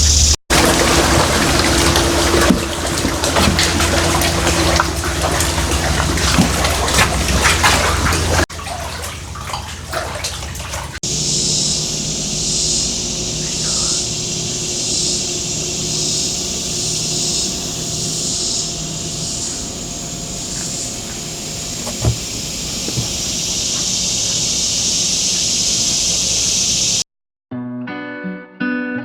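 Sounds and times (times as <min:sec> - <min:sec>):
water running and splashing: 0:00.0 - 0:27.0.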